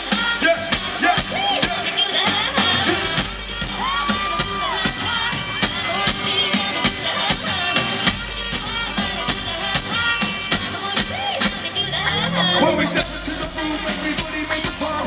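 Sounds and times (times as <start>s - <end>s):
hip-hop pop track: 0.0s - 15.0s.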